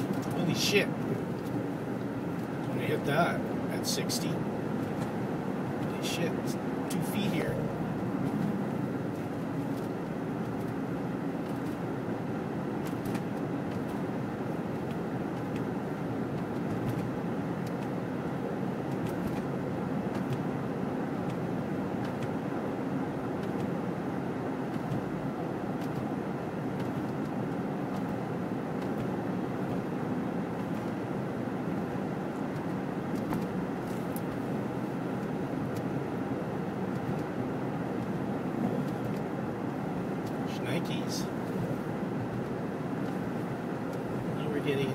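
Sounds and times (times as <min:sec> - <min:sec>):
vehicle driving on snow: 0:00.0 - 0:44.9.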